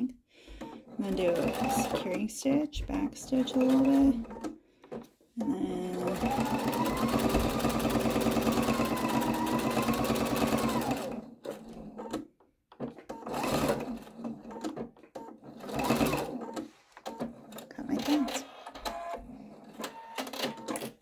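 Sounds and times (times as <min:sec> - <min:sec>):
sewing machine stitching: 0:00.6 - 0:21.0.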